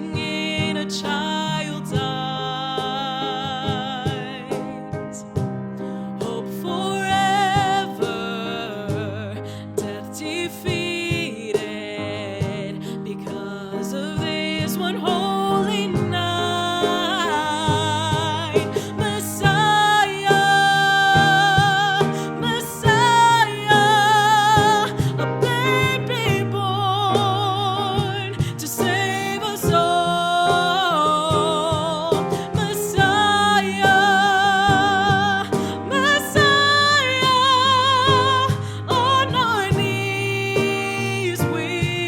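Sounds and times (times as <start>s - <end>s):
instrumental accompaniment with bass: 0.0s - 42.0s
person singing with vibrato: 6.2s - 42.0s.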